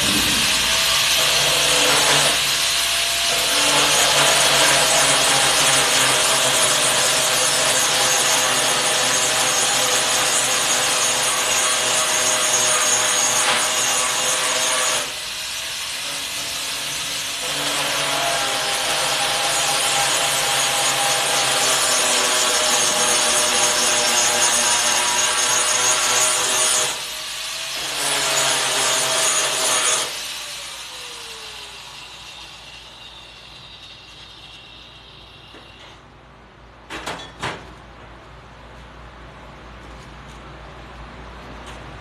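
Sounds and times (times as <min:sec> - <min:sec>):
power grinder grinding metal: 0:00.0 - 0:35.7.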